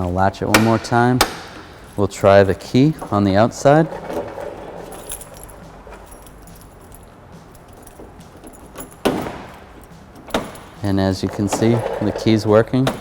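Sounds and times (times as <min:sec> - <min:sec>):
car keys jingling: 0:00.0 - 0:13.0
door lock clunk: 0:00.4 - 0:06.4, 0:07.6 - 0:13.0.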